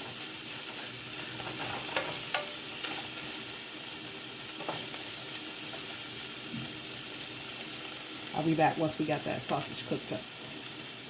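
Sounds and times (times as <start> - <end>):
sausage sizzling in a pot: 0.0 - 11.0.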